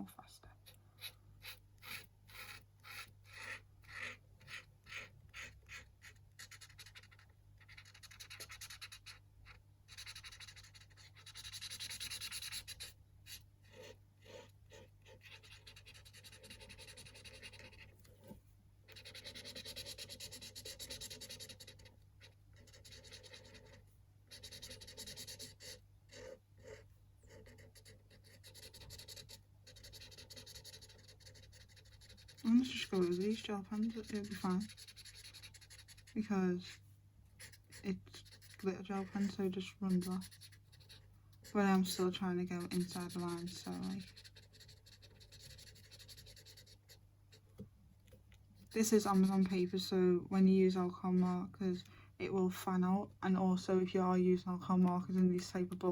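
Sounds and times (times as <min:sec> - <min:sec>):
marker scratching on paper: 0:00.6 - 0:36.8, 0:37.4 - 0:47.0, 0:48.6 - 0:50.0.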